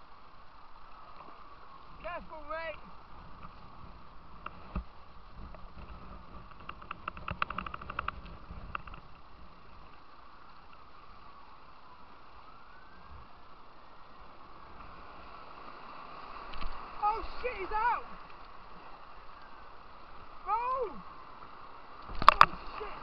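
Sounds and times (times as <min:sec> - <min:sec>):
rushing white water: 0:00.0 - 0:23.0.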